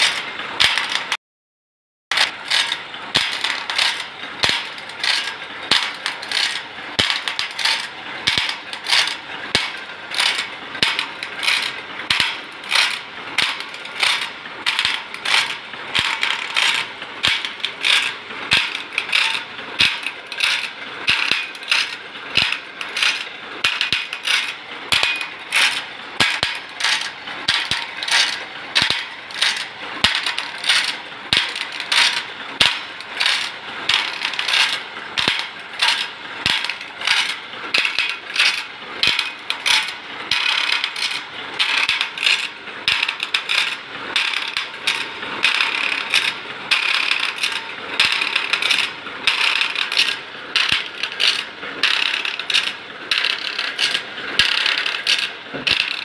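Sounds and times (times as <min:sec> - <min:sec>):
saw sharpening machine clacking: 0:00.0 - 0:01.2, 0:02.1 - 0:56.0.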